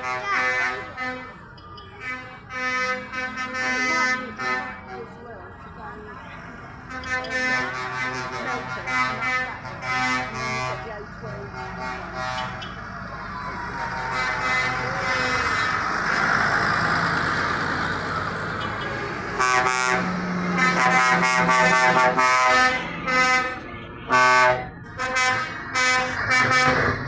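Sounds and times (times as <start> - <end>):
vehicle air horns blasting: 0.0 - 5.2, 6.9 - 12.8, 13.8 - 15.9, 18.5 - 27.0.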